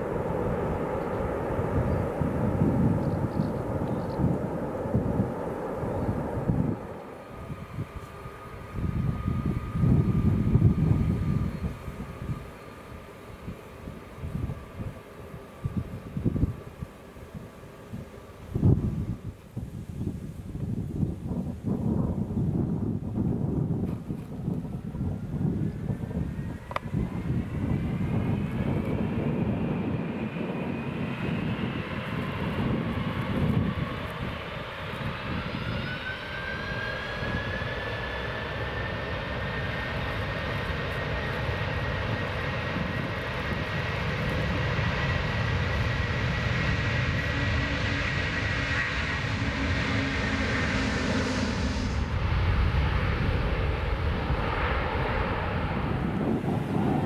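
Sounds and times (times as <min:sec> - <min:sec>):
deep jet rumble: 0:00.0 - 0:57.0
jet engines whining at takeoff: 0:00.0 - 0:57.0.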